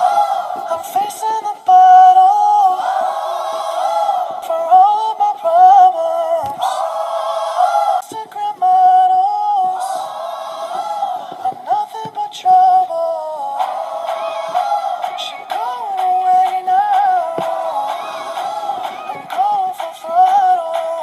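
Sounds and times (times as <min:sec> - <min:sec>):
pop song with sung vocals: 0:00.0 - 0:21.0.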